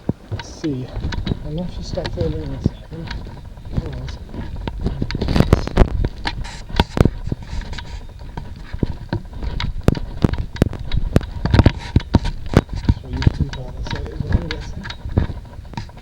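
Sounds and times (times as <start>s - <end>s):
crunching footsteps on gritty floor: 0.0s - 16.0s
low rumble: 0.0s - 16.0s.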